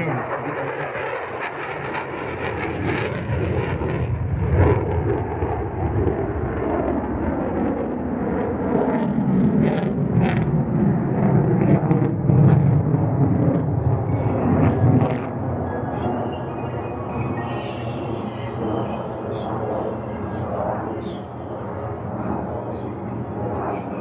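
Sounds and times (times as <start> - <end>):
jet engine crackles: 0.0 - 24.0
jet engine deep rumble: 0.0 - 24.0.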